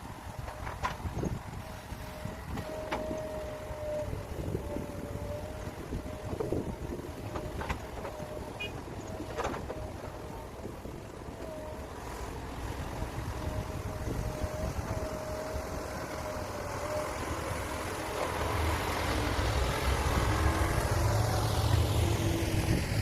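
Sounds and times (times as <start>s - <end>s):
diesel engine rumble: 0.0s - 23.0s
heavy diesel machinery whine: 0.0s - 23.0s.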